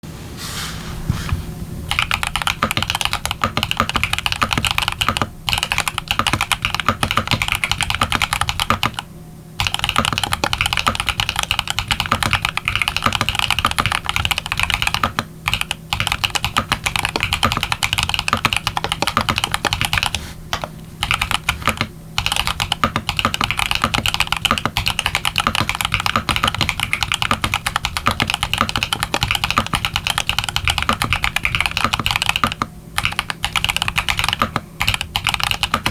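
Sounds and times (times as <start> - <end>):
typing on mechanical keyboard: 1.9 - 9.0, 9.6 - 35.9.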